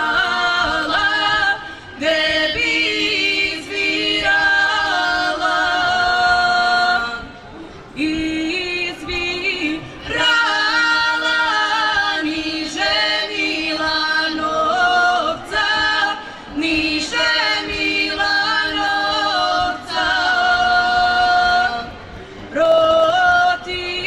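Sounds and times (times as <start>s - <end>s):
women singing together unaccompanied: 0.0s - 24.0s.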